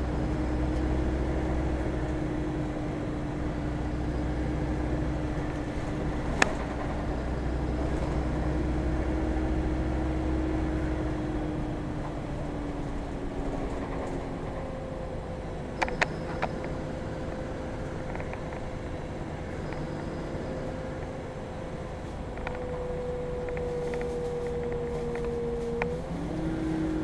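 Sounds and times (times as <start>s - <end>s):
bus engine drone with whine: 0.0s - 27.0s.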